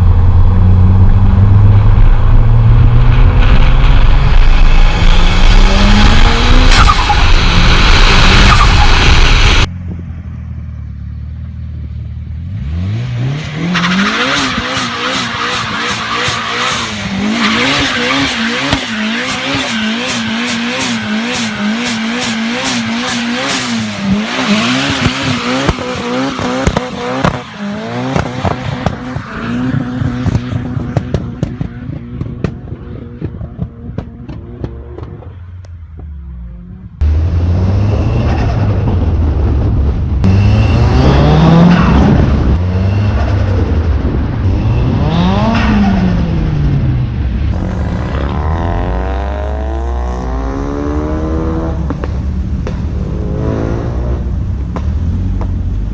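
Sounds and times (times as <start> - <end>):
engine revving and blipping: 0.0 - 9.7, 12.4 - 35.6, 36.3 - 54.4
car engine at full throttle: 0.0 - 55.9.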